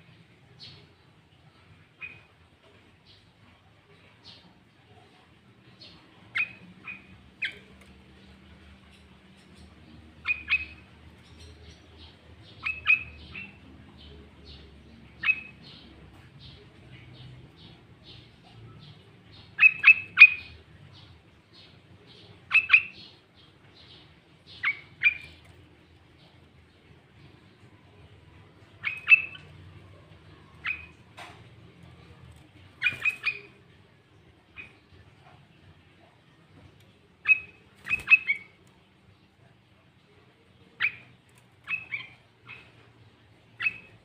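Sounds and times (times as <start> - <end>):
soft bird chirps: 0.0 - 44.0.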